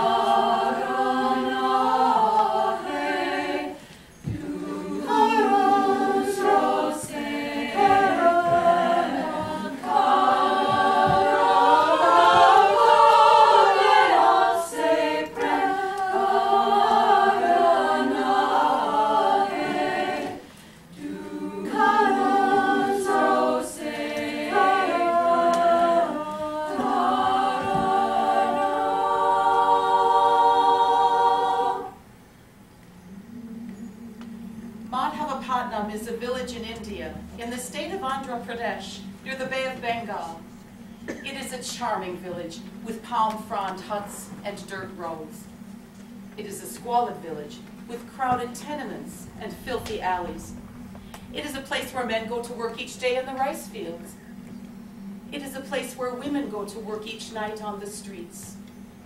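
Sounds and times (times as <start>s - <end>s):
women's choir singing a cappella: 0.0s - 32.1s, 33.0s - 58.7s.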